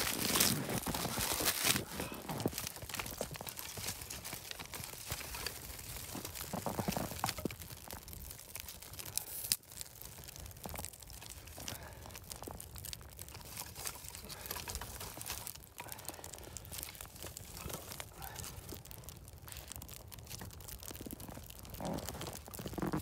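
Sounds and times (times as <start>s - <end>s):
fire crackling and popping: 0.0s - 23.0s
sticks rustling and clattering: 0.0s - 23.0s.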